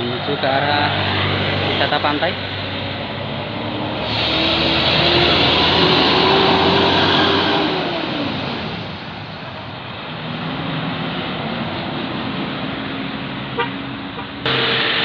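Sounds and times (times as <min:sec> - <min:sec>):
bus engine passing by: 0:00.0 - 0:15.0
heavy engine humming: 0:00.0 - 0:15.0
road noise: 0:00.0 - 0:15.0.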